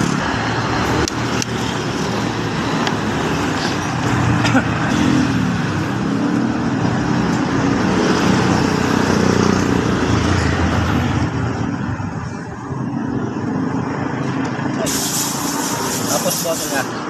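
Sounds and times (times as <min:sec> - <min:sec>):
road traffic noise: 0:00.0 - 0:17.0
vehicle engines running: 0:00.0 - 0:17.0.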